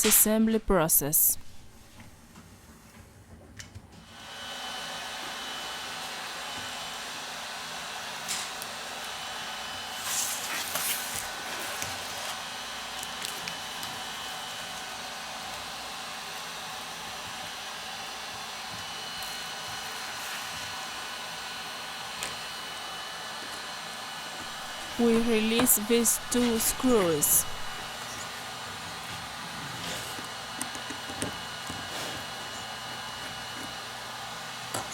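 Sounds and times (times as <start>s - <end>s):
electric blower blowing: 4.1s - 34.9s.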